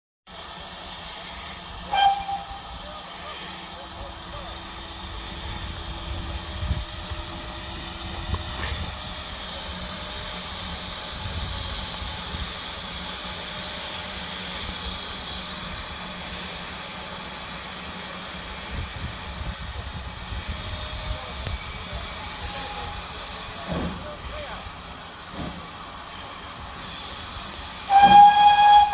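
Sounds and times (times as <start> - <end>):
steam locomotive hissing: 0.3 - 28.9.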